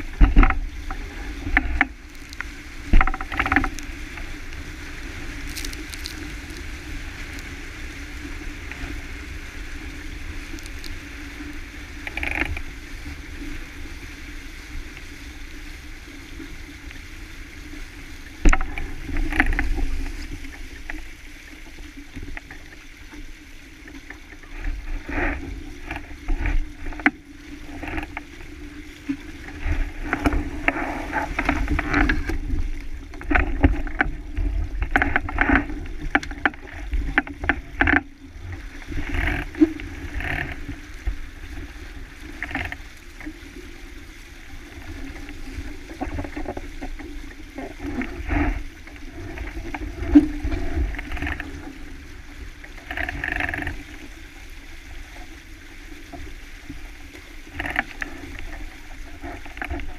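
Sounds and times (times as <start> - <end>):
water splashing along hull: 0.0 - 59.9
wind rumbling on microphone: 0.0 - 59.9.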